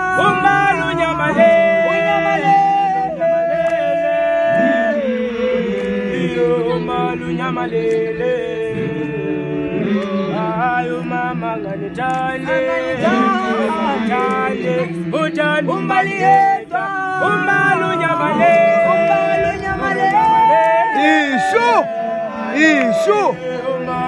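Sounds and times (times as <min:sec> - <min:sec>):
group singing a cappella: 0:00.0 - 0:24.0.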